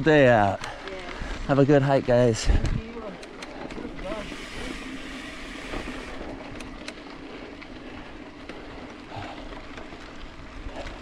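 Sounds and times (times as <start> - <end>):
bike clicks and rattles: 0.0 - 11.0
bike tyres rolling on dirt: 0.0 - 11.0.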